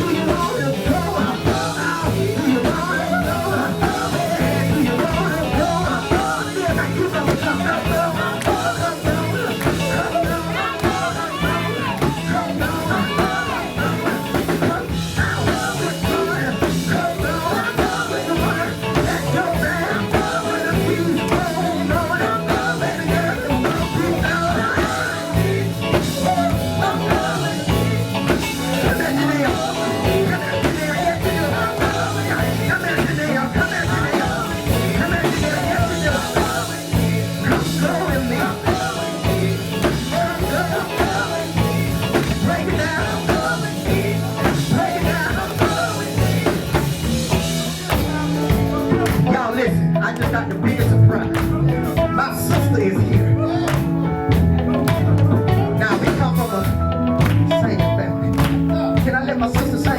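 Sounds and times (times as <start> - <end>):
live band with singing: 0.0 - 59.9.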